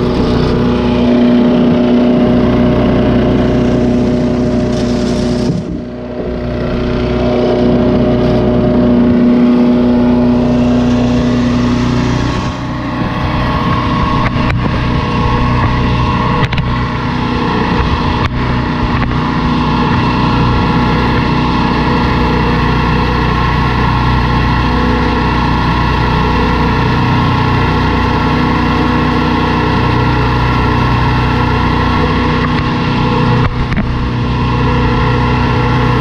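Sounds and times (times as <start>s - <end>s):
wood chipper engine running: 0.0s - 36.0s.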